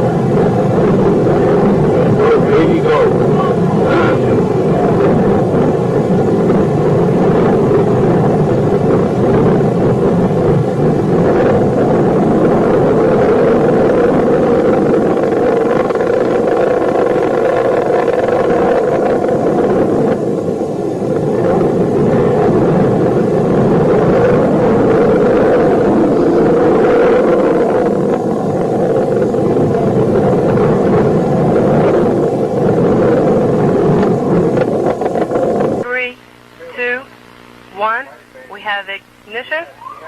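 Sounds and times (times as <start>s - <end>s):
rocket engine rumble: 0.0s - 40.0s.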